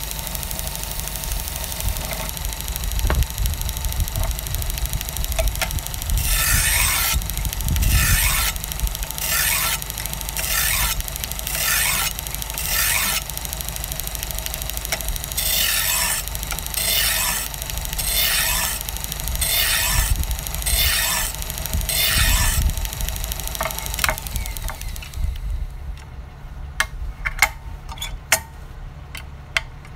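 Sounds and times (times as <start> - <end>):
low machine hum: 0.0 - 27.9.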